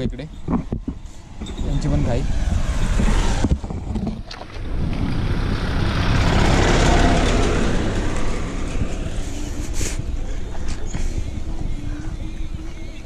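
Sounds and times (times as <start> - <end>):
low rumble: 0.7 - 13.0
vehicle passing close by: 1.0 - 13.0.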